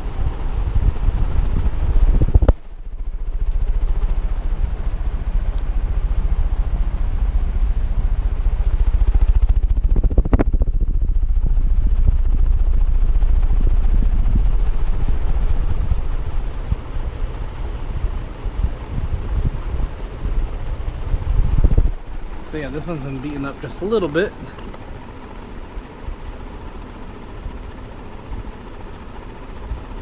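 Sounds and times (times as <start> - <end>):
fan wind buffeting microphone: 0.0 - 30.0.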